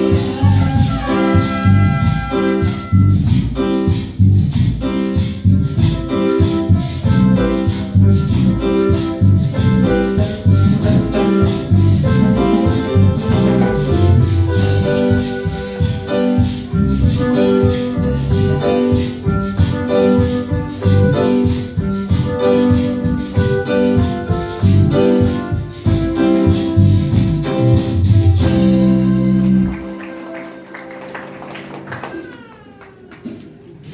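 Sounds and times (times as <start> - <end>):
steady percussion beat: 0.0 - 31.0
keyboard music: 0.0 - 32.2.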